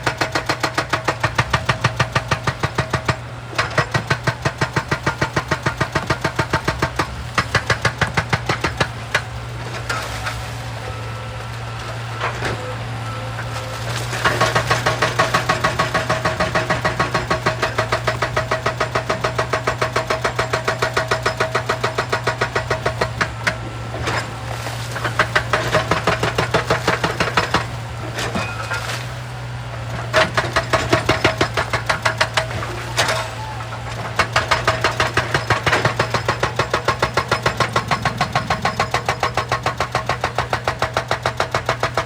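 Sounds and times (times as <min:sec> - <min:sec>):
hydraulic rock breaker hammering: 0:00.0 - 0:10.3, 0:11.0 - 0:42.0
diesel engine running: 0:00.0 - 0:42.0.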